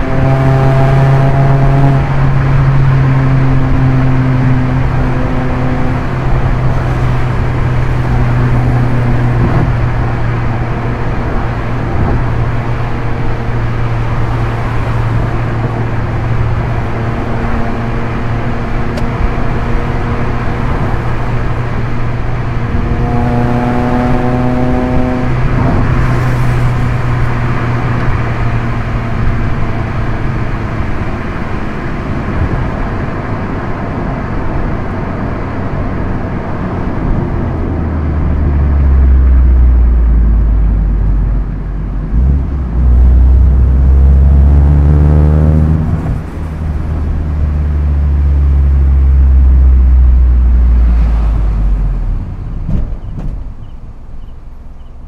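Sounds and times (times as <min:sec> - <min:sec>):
car engine drone from cabin: 0:00.0 - 0:55.0.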